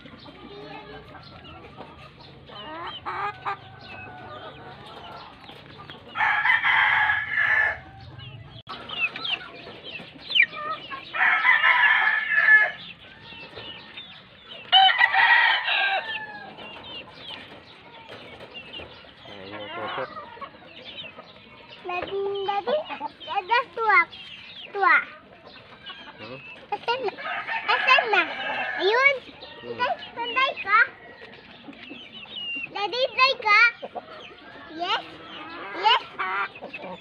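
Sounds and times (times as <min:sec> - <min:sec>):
roosters crowing: 0:00.0 - 0:21.8, 0:25.3 - 0:32.4, 0:33.8 - 0:37.0
fowl clucking and chirping: 0:00.0 - 0:37.0.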